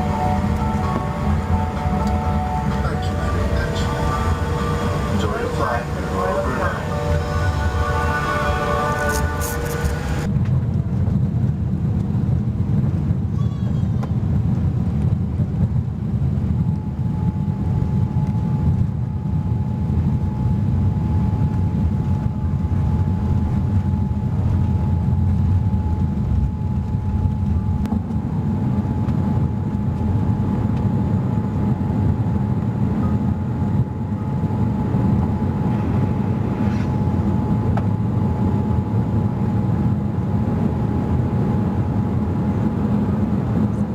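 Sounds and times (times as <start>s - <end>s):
thin steady whine: 0.0s - 10.4s, 16.5s - 43.9s
jet engine rumble in cabin: 0.0s - 43.9s.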